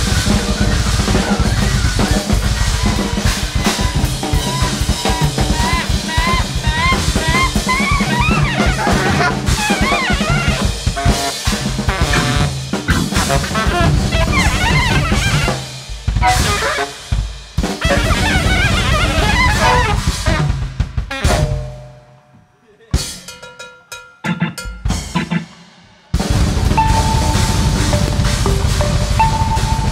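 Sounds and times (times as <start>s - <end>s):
horn phrases: 0.0s - 21.6s, 25.0s - 29.9s
jazz band playing fast: 0.0s - 21.8s, 24.3s - 29.9s
drum kits: 0.0s - 29.9s.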